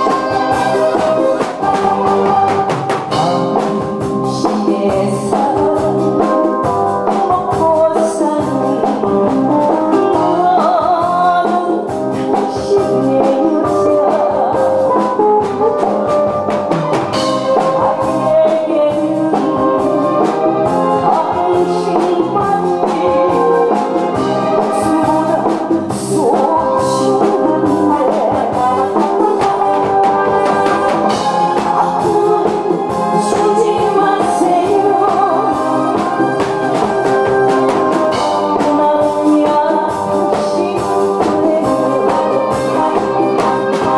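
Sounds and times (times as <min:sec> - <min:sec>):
brass-led instrumental accompaniment: 0:00.0 - 0:05.1, 0:11.8 - 0:43.9
woman singing into microphone: 0:00.0 - 0:16.5, 0:17.1 - 0:43.9.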